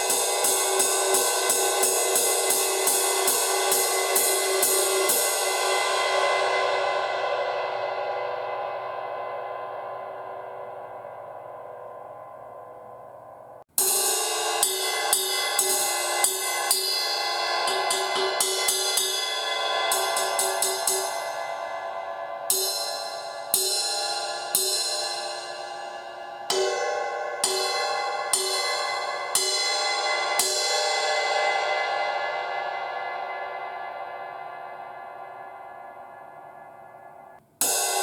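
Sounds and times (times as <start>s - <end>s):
ride cymbal strokes: 0.0s - 12.5s, 13.7s - 38.0s
crash cymbal ringing: 0.0s - 38.0s.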